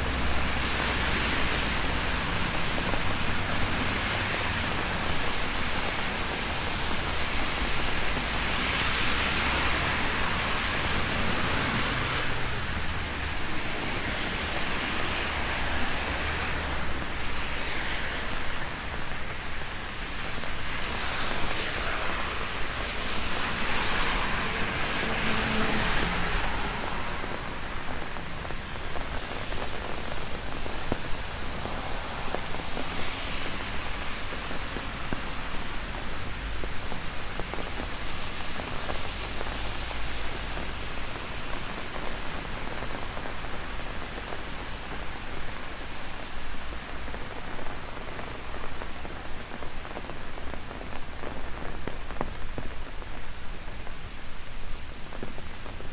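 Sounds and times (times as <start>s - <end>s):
rain drumming on an umbrella: 0.0s - 55.9s.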